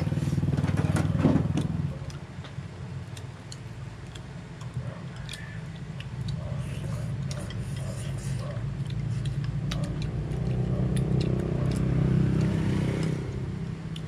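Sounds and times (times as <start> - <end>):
low motor hum: 0.0 - 14.0
crunchy chewing: 1.1 - 14.0.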